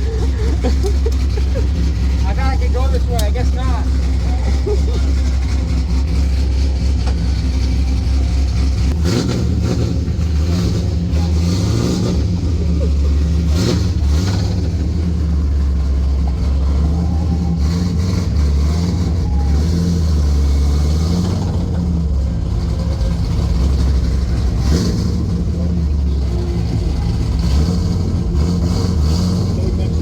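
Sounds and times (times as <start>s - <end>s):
loud exhaust rumble: 0.0s - 30.0s.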